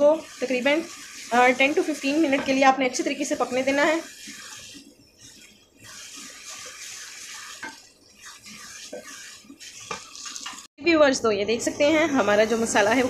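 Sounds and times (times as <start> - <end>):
masala sizzling in oil: 0.0 - 10.7, 11.5 - 13.0.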